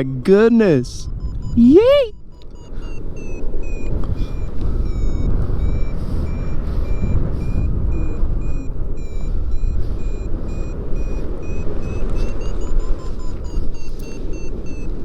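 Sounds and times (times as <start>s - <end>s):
variometer beeping: 0.0s - 15.0s
wind rush on microphone: 0.8s - 15.0s.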